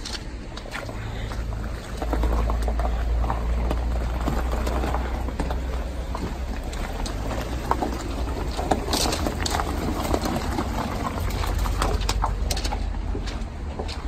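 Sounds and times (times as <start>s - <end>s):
footsteps crunching on gravel: 0.0s - 14.0s.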